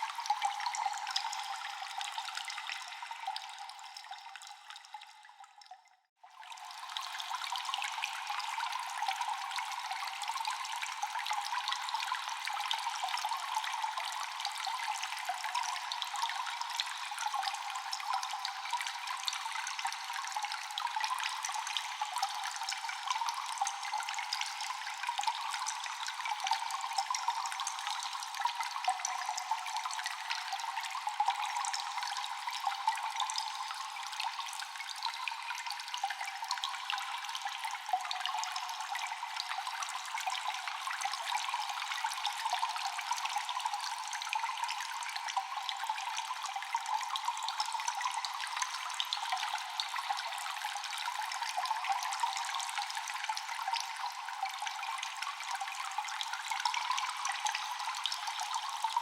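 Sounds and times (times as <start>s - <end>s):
water dripping in a cave: 0.0s - 59.0s.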